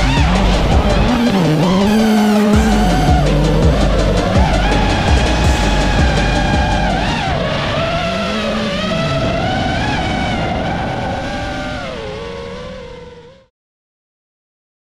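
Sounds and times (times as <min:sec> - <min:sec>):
drone motors whining: 0:00.0 - 0:13.5.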